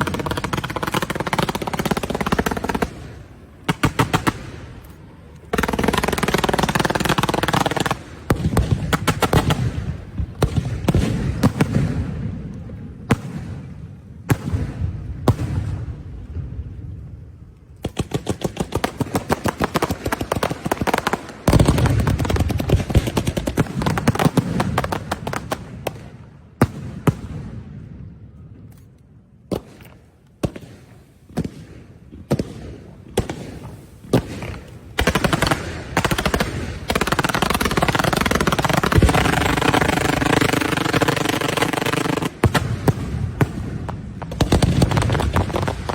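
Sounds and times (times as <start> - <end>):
firecrackers crackling: 0.0 - 27.8, 29.4 - 45.9.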